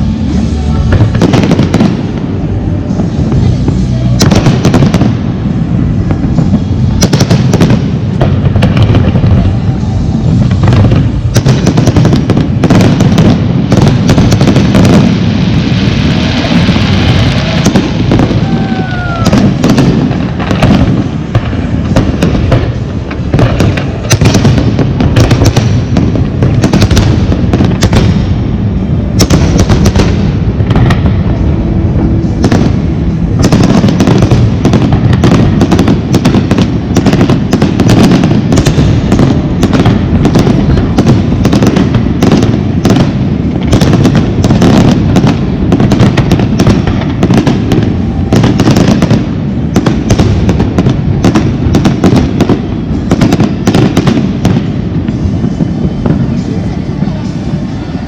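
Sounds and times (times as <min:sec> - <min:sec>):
firework whistle: 0:00.0 - 0:58.0.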